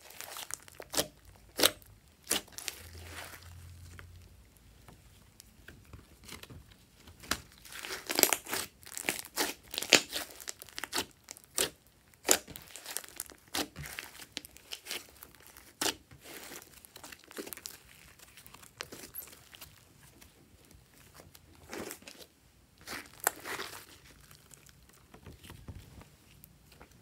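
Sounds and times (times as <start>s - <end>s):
slime being kneaded by hand: 0.0s - 27.0s.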